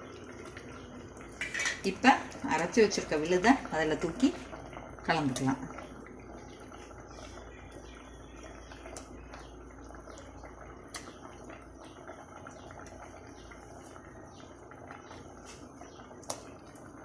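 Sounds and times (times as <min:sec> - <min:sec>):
bubbles popping: 0:00.0 - 0:17.0
water bubbling in a pot: 0:00.0 - 0:17.0.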